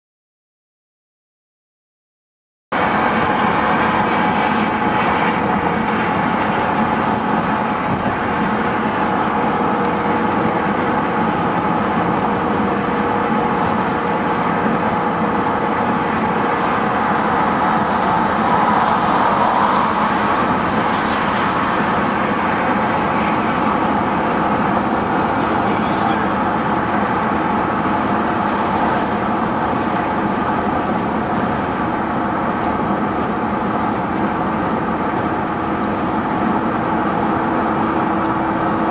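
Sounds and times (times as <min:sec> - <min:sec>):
road and engine drone in cabin: 0:02.7 - 0:38.9.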